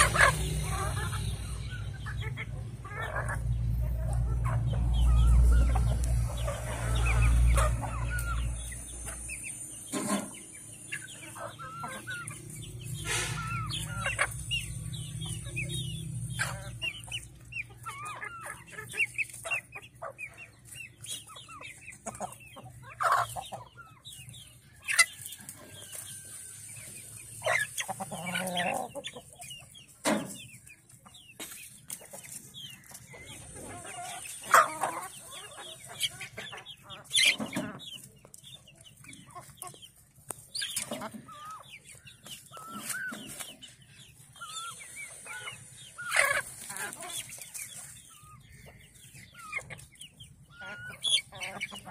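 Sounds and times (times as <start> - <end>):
chickens clucking and calling: 0.0 - 51.9.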